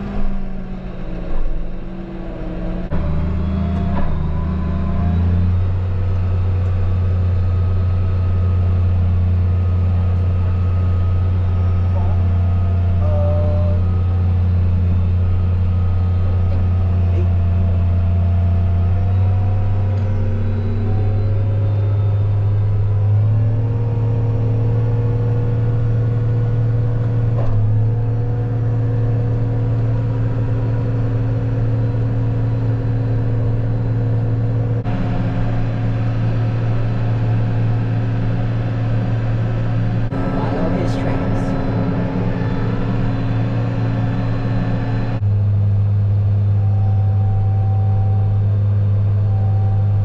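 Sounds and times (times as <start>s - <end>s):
vehicle engine humming: 0.0s - 50.0s.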